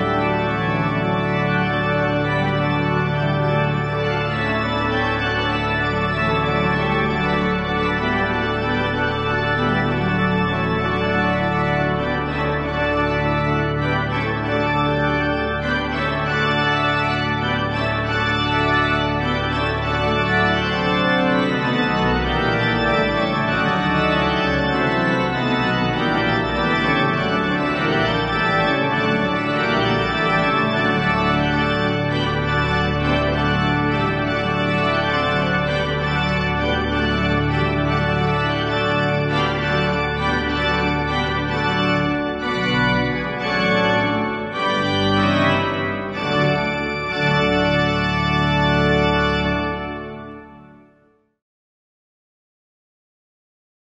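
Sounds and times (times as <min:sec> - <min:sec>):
pipe organ chords: 0:00.0 - 0:51.1.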